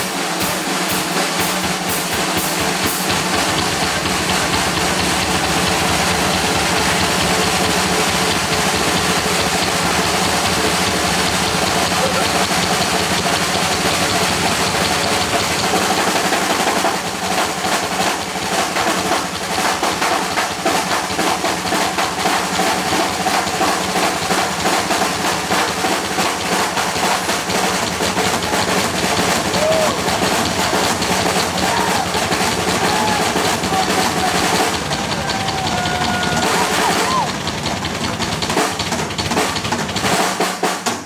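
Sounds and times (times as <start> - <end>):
rapid drum hits: 0.0 - 41.0.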